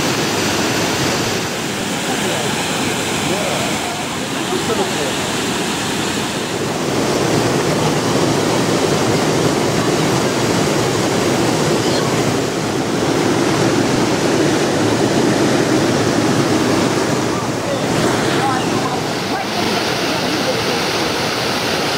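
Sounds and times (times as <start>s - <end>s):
water rushing over weir: 0.0s - 21.9s.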